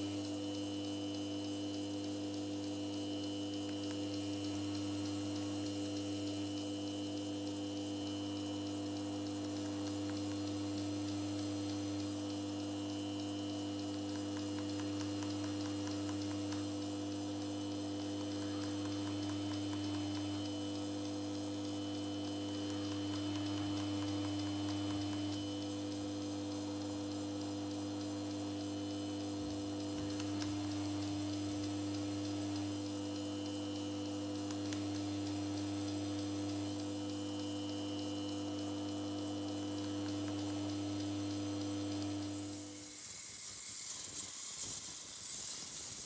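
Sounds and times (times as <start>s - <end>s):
machine humming: 0.0s - 46.0s.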